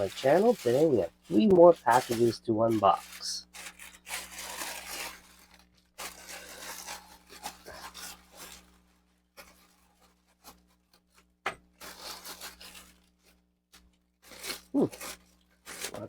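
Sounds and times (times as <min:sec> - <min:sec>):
package rustling and scraping: 0:00.0 - 0:16.0.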